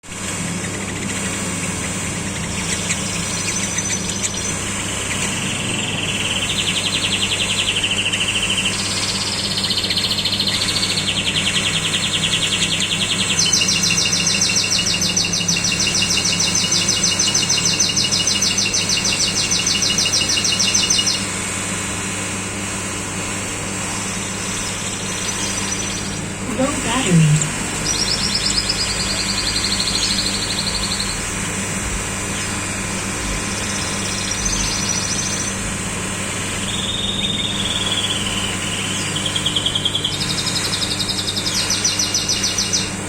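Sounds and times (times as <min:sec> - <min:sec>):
steady low hum: 0:00.0 - 0:43.0
nightingale trilling: 0:00.7 - 0:21.3, 0:24.6 - 0:31.3, 0:33.5 - 0:35.6, 0:36.6 - 0:43.0.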